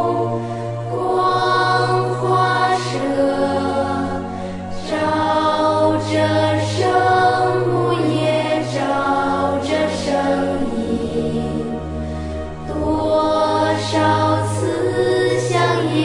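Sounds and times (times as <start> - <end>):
choir singing a hymn: 0.0 - 16.0
steady low accompaniment: 0.0 - 16.0.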